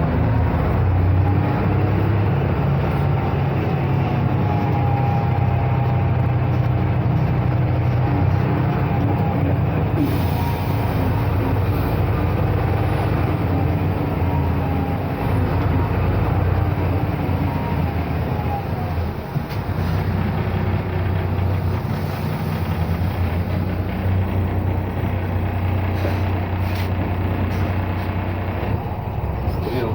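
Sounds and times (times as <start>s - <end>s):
bus diesel engine rumbling: 0.0s - 29.9s.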